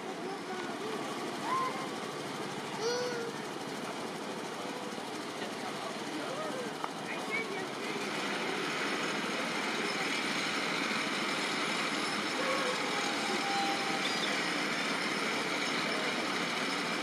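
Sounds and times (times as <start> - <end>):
steady outdoor rush: 0.0 - 17.0.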